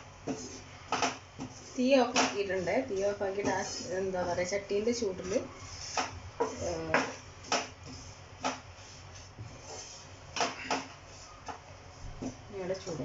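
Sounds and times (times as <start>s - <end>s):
spatula scraping in a pan: 0.0s - 13.0s.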